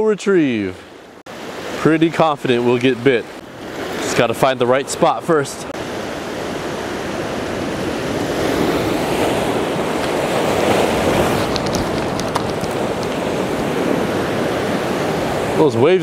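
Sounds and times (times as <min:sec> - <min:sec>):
ocean waves breaking on rocks: 0:00.2 - 0:16.0.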